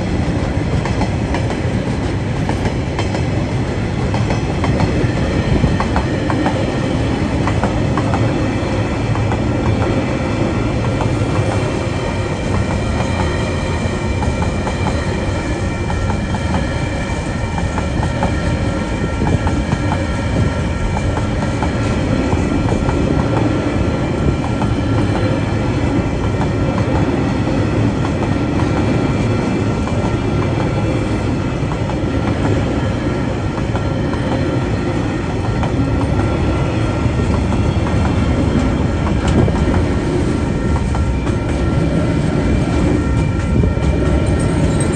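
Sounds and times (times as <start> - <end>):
clickety-clack over rail joints: 0.0 - 44.9
freight train wheels rumbling on rails: 0.0 - 44.9.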